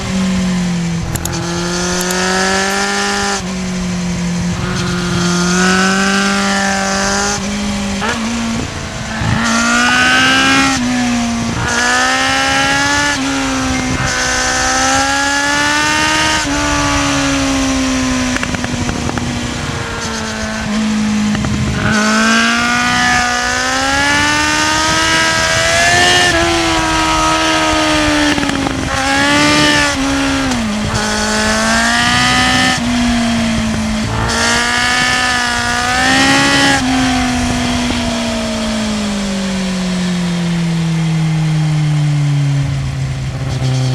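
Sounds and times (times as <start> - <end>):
motorcycle engine shifting gears: 0.0 - 43.9.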